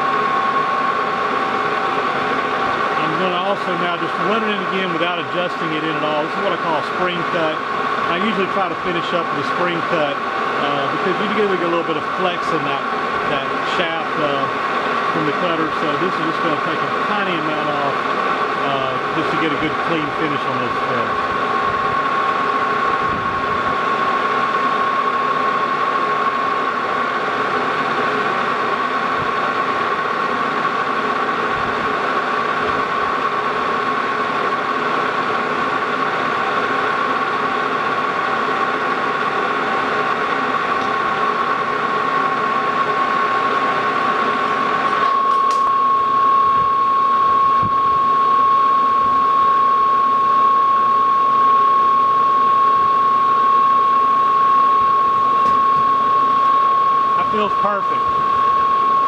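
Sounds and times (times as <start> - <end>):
metal lathe whining: 0.0 - 59.0.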